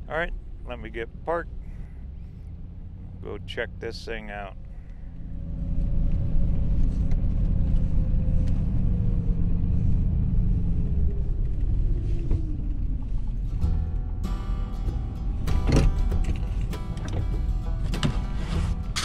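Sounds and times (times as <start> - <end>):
vehicle engine and tyres rumbling: 0.0 - 19.0.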